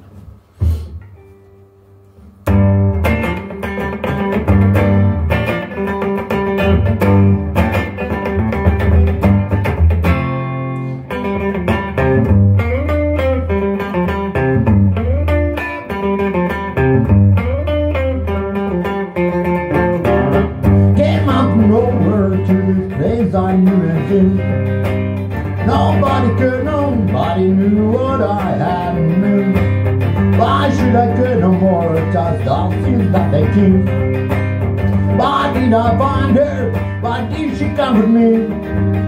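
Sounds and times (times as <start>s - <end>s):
electric guitar and bass band: 0.0s - 39.0s.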